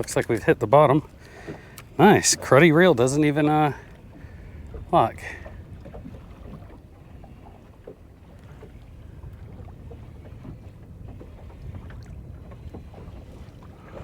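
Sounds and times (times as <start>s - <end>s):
water moving around boat: 0.0s - 14.0s
wind buffeting microphone: 0.0s - 14.0s.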